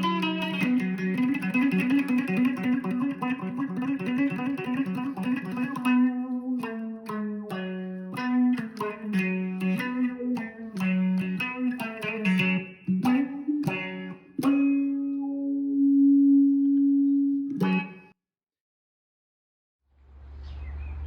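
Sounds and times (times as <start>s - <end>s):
plucked guitar notes: 0.0s - 18.2s.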